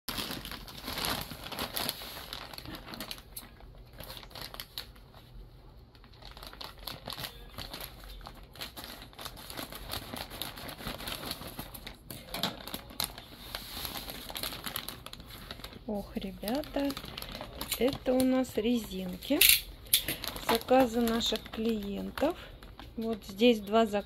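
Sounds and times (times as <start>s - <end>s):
plastic bag crinkling: 0.1s - 24.0s.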